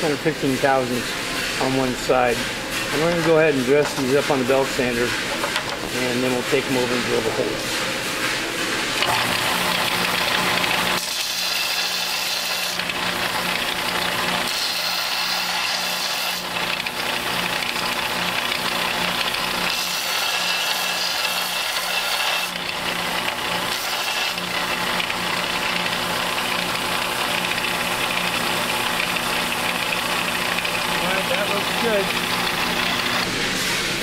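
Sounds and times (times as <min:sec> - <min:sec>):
metal part grinding on belt: 0:00.0 - 0:33.3
belt sander running: 0:00.0 - 0:34.0.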